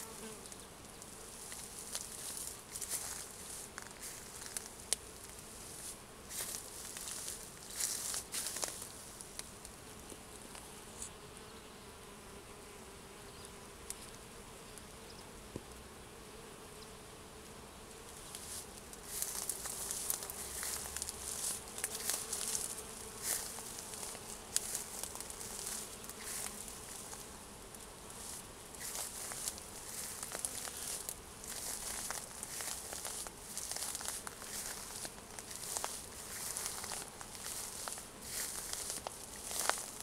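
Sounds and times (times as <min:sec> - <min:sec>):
leaves rustling near microphone: 0:00.0 - 0:11.2, 0:17.8 - 0:40.0
bees buzzing: 0:00.0 - 0:40.0.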